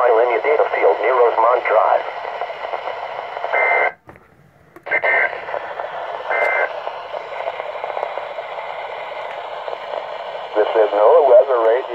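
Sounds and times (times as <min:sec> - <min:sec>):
radio static: 0:00.0 - 0:04.0, 0:04.8 - 0:11.9.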